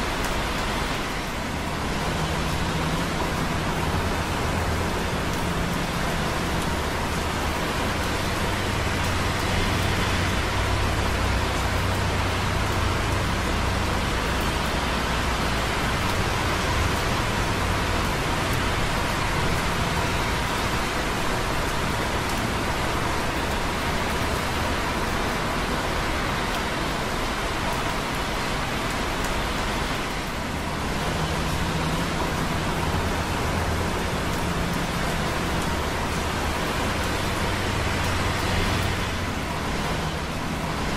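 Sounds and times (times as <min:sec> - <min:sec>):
low traffic rumble: 0:00.0 - 0:40.9
rain and tyres hissing: 0:00.0 - 0:40.9
rain dripping on concrete: 0:00.0 - 0:40.9.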